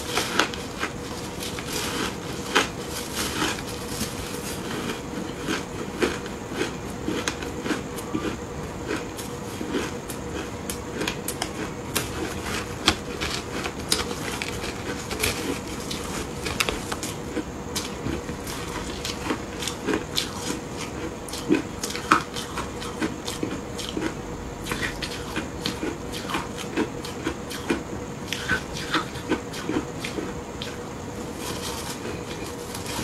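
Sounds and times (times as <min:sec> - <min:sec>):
chewing crunchy ice: 0:00.0 - 0:33.0.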